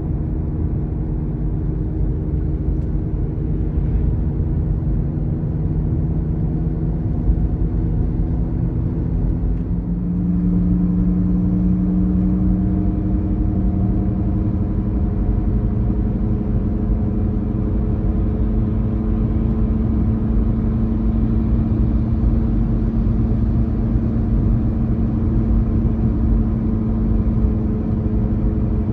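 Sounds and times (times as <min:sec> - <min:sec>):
low droning hum: 0:00.0 - 0:28.9
low rumble: 0:00.0 - 0:28.9.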